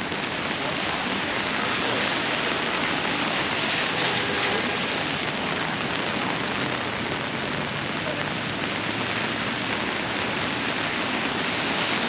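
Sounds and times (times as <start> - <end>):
heavy rain on pavement: 0.0 - 12.0
rain on an umbrella: 0.0 - 12.0.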